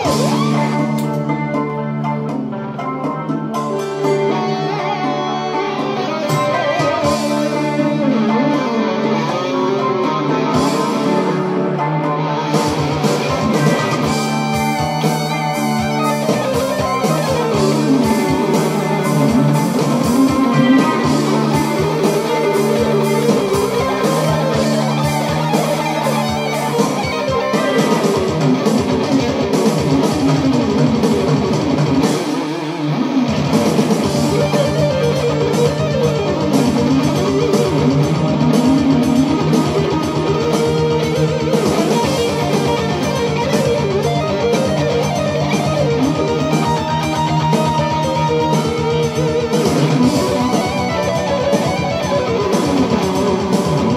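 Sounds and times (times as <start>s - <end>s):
electric guitar rock lead: 0.0s - 53.9s.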